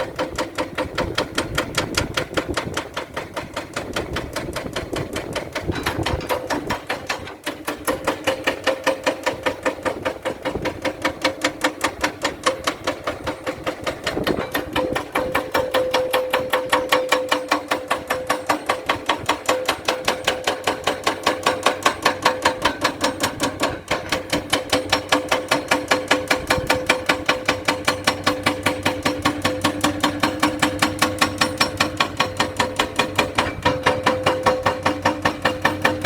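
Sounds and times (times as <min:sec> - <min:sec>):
engine hum: 0:00.0 - 0:36.0
rapid mechanical knocking: 0:00.0 - 0:36.0.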